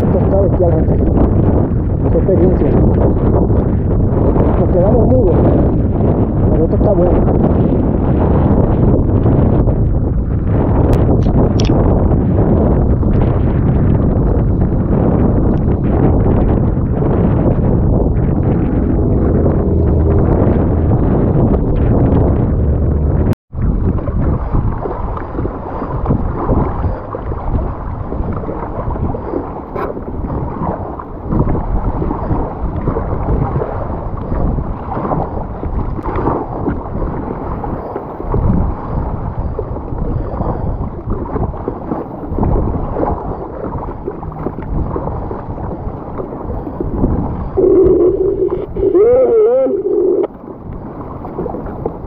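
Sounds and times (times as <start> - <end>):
sea water rushing and splashing: 0.0 - 52.0.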